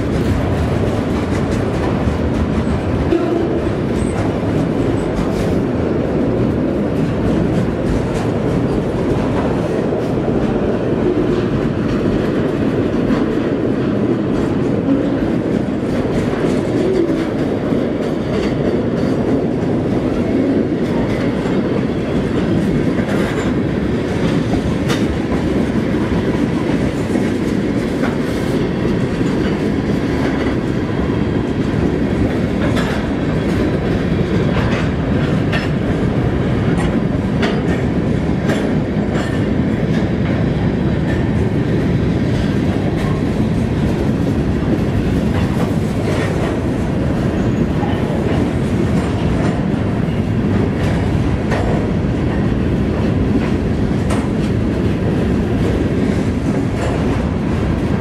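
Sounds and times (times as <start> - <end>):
freight train rumbling past: 0.0 - 58.0
wheels clickety-clack on rail joints: 0.0 - 58.0.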